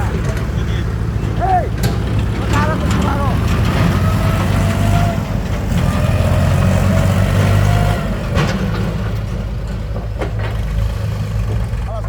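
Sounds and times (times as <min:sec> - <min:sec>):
heavy diesel engine under load: 0:00.0 - 0:12.0.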